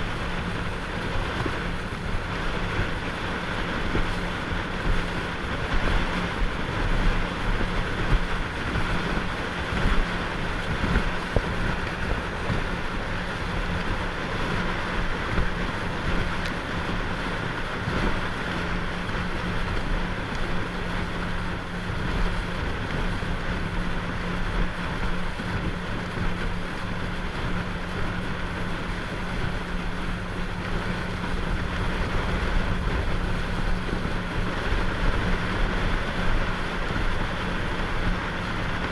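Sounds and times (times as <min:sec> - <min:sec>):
boat engine hum: 0:00.0 - 0:38.9
water rushing: 0:00.0 - 0:38.9
wind buffeting microphone: 0:00.0 - 0:38.9.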